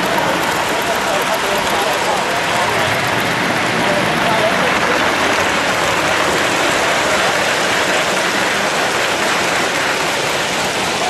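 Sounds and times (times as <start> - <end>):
model train wheels on rails: 0.0 - 11.0.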